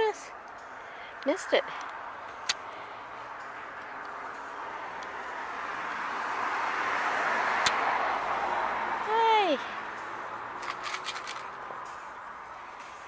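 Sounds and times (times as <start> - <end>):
vehicle passing: 0.0 - 13.0.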